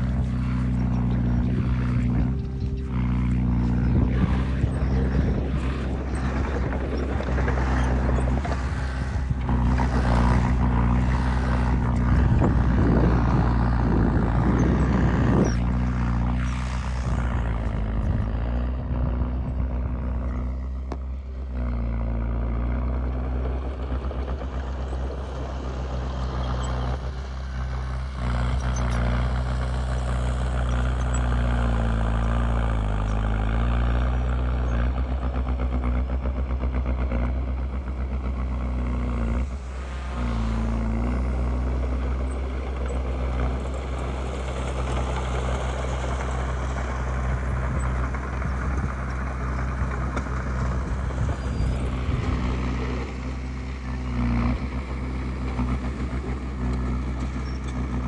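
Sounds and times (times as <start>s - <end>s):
bulldozer diesel engine running: 0.0s - 58.0s
rattling and scraping: 0.0s - 58.0s.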